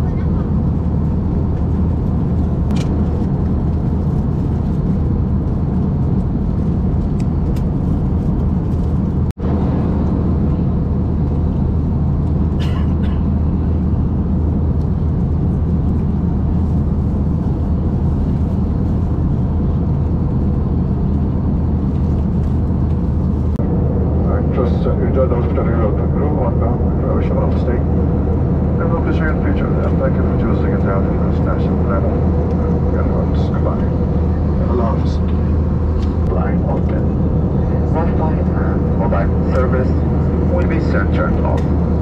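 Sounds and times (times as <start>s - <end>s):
airliner cabin engine roar: 0.0s - 42.0s.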